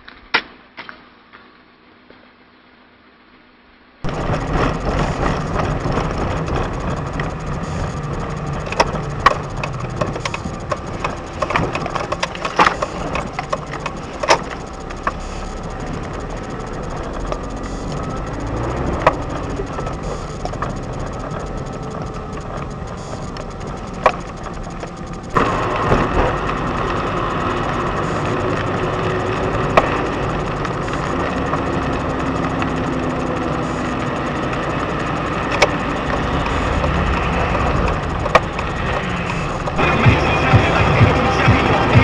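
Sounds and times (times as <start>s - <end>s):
car road and engine noise: 3.9s - 42.0s
sharp clicks and knocks: 4.0s - 42.0s.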